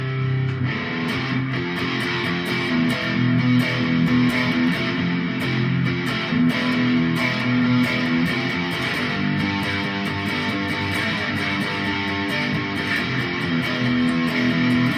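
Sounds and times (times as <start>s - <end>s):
electric guitar strumming chords: 0.0s - 14.9s.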